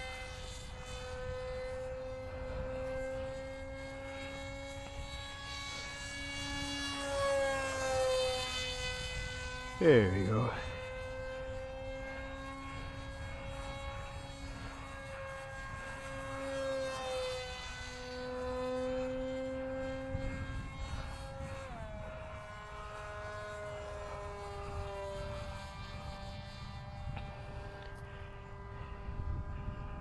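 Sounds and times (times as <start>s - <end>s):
electric motor and propeller humming: 0.0s - 30.0s.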